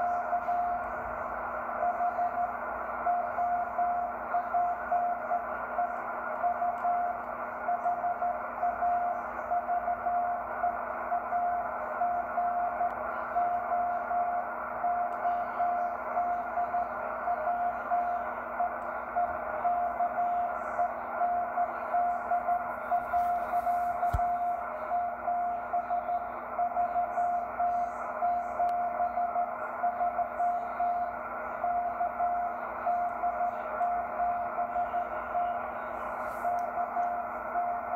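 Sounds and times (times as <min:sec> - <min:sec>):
morse code tone: 0:00.0 - 0:37.9
radio band hiss: 0:00.0 - 0:37.9.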